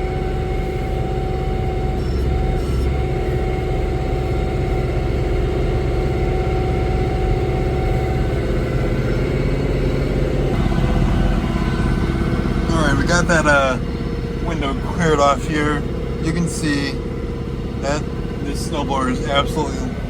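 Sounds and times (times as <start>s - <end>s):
steady mechanical whine: 0.0s - 20.0s
tractor diesel engine running: 0.0s - 20.0s.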